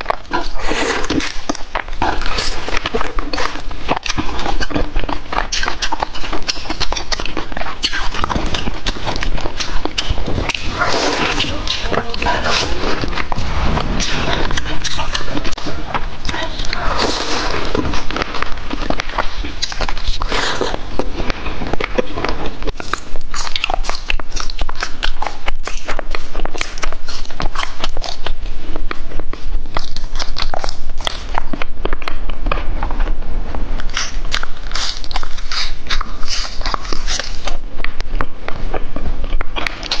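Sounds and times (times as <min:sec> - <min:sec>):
wet mouth clicks: 0:00.0 - 0:32.7, 0:33.8 - 0:40.0
biting and chewing: 0:00.0 - 0:40.0.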